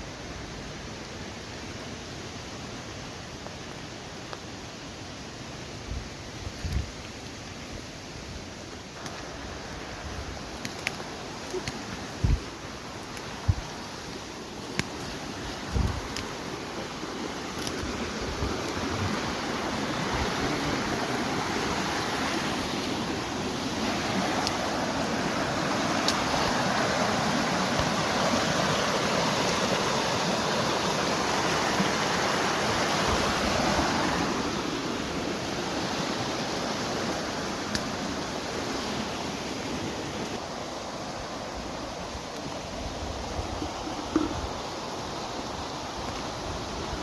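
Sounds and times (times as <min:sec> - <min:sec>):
rain falling in forest: 0:00.0 - 0:47.0.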